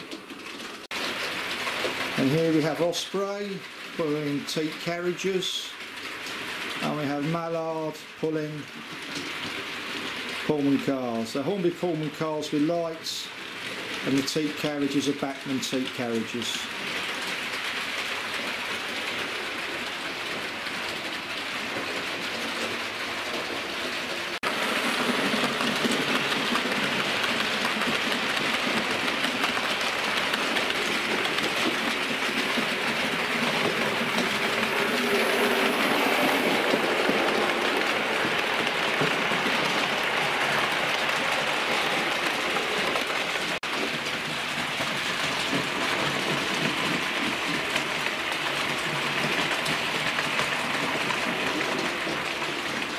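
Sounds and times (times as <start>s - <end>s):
model train running on rails: 0.0s - 52.9s.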